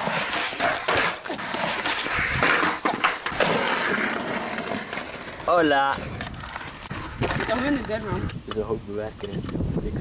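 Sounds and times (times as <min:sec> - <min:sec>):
skateboard wheels rolling on brick: 0:00.0 - 0:08.7.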